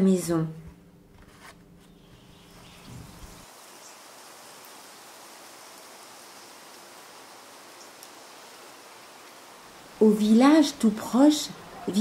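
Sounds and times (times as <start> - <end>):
steady hiss: 2.0 - 12.0.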